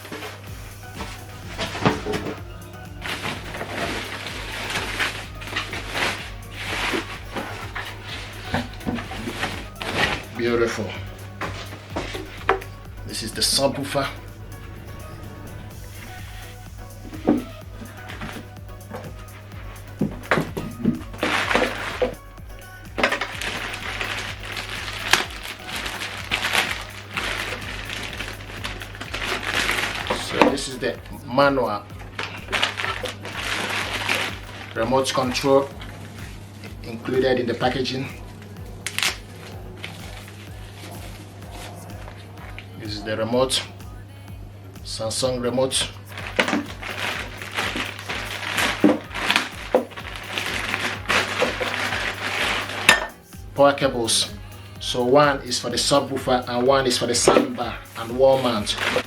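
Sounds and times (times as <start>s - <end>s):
wrapping material crinkling: 0.0s - 14.3s, 14.9s - 42.8s, 46.0s - 53.8s, 55.2s - 59.0s.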